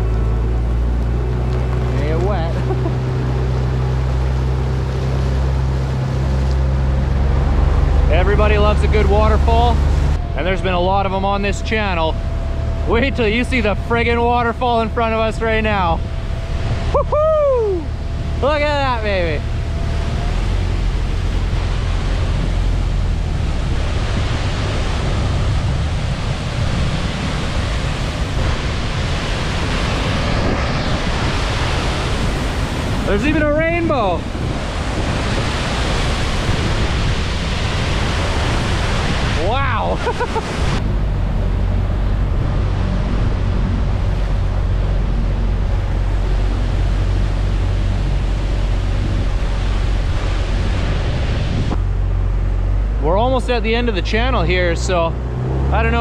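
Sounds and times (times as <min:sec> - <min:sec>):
heavy low rumble: 0:00.0 - 0:56.0
outboard motor humming: 0:00.0 - 0:56.0
waterfall roaring: 0:00.0 - 0:56.0
wind buffeting microphone: 0:00.0 - 0:56.0.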